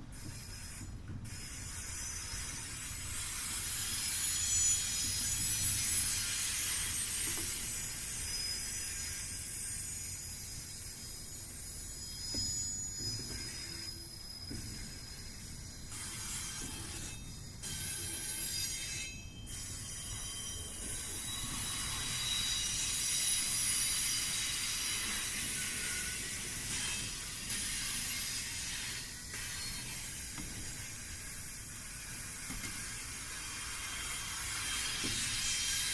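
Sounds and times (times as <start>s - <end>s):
high-pitched wheel flange squeals: 0.2s - 35.9s.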